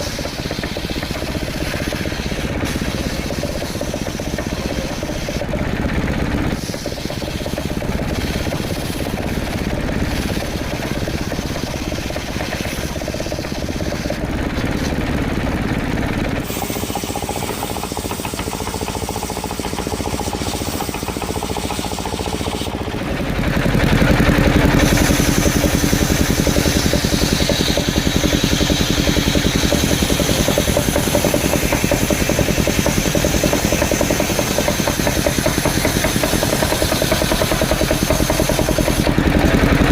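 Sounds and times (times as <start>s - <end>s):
wood saw engine running: 0.0s - 39.9s.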